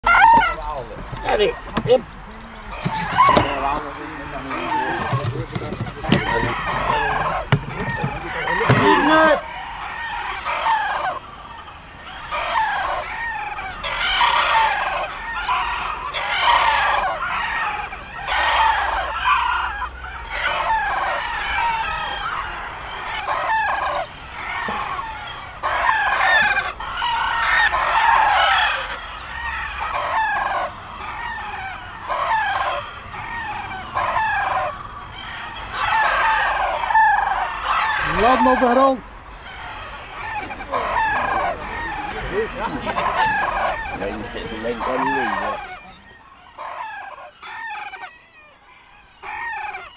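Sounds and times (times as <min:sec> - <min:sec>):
roosters crowing: 0:00.0 - 0:49.9.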